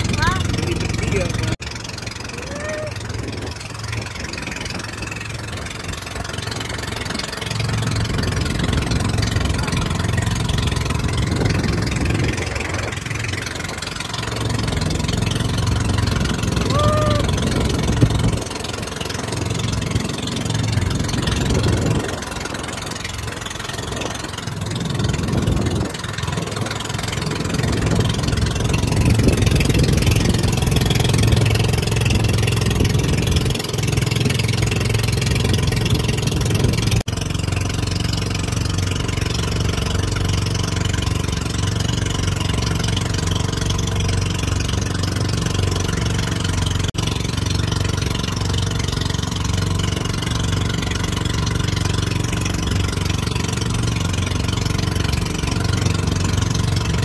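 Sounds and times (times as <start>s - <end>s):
boat engine running: 0.0s - 57.0s
wind and water rushing: 0.0s - 57.0s.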